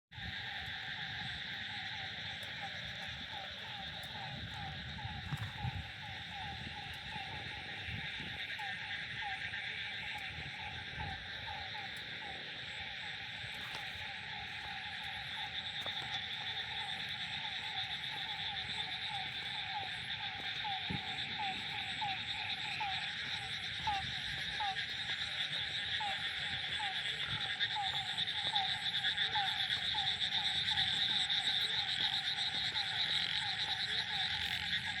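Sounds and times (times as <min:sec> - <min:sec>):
frogs croaking: 0:00.1 - 0:35.0.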